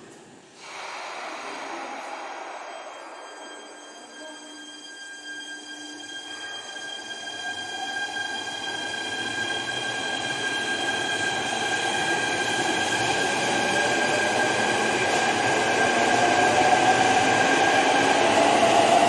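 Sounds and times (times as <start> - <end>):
electric train whine: 0.6 - 19.0.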